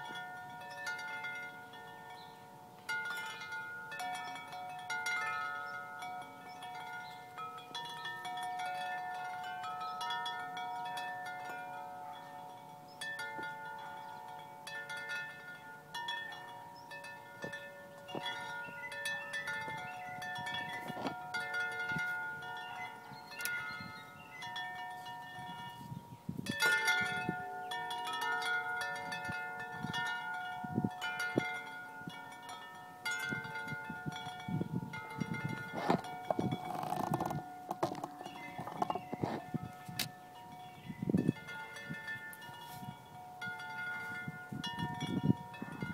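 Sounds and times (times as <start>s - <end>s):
large tubular wind chime ringing: 0.0s - 45.9s.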